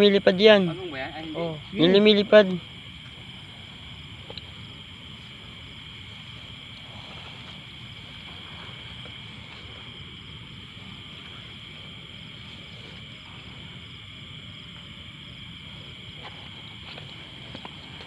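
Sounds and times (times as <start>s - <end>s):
crickets shrilling: 0.0s - 18.0s.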